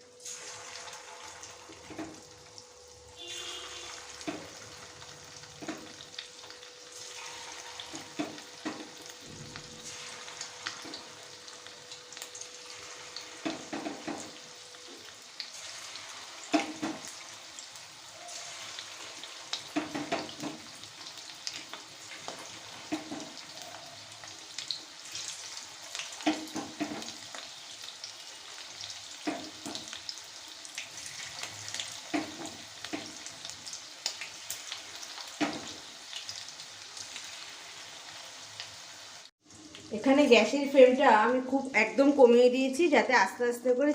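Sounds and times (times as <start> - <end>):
chicken frying in hot oil: 0.0 - 42.8
oil crackles and pops: 0.2 - 40.0.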